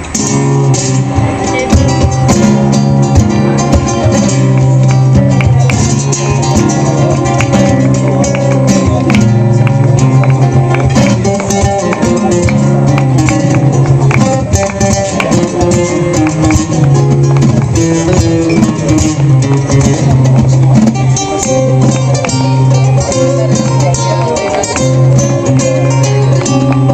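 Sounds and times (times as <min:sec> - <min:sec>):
flamenco guitars strumming: 0:00.0 - 0:26.9.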